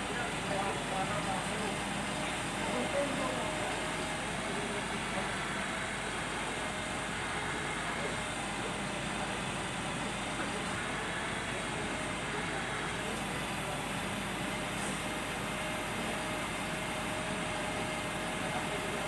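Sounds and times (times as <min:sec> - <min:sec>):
crane engine running: 0:00.0 - 0:19.0.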